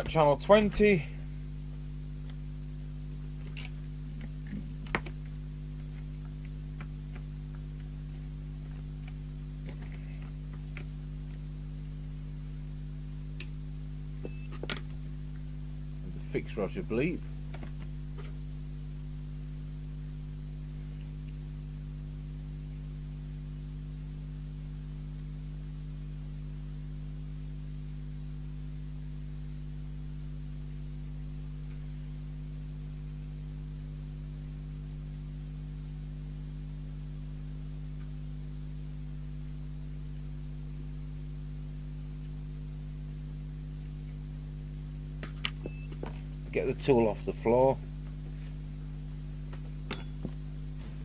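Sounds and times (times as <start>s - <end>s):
mains hum: 0.0s - 51.0s.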